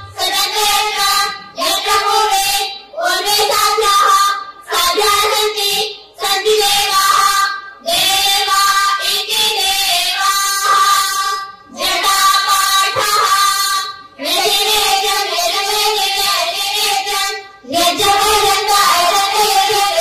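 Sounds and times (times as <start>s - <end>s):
girls singing in unison: 0.0s - 20.0s.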